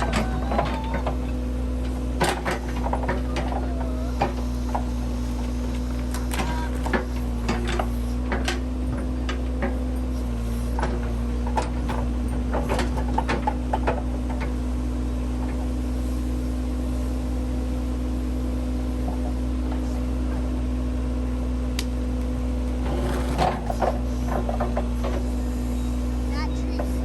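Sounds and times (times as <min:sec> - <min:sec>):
backhoe engine running: 0:00.0 - 0:27.0.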